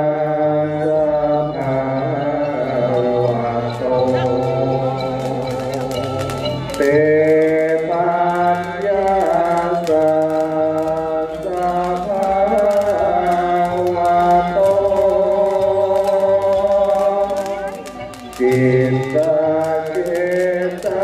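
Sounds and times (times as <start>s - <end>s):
slow chant-like music: 0.0s - 21.0s.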